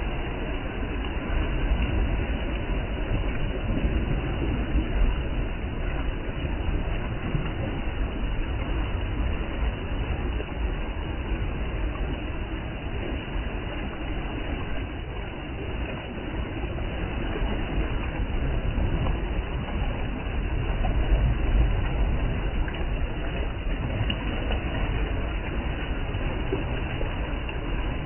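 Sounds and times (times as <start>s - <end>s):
waves washing over rocks: 0.0s - 28.0s.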